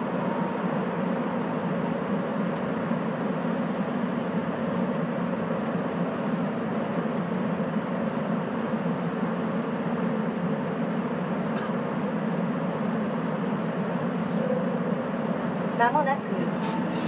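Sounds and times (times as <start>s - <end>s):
subway train rumbling in tunnel: 0.0s - 17.0s.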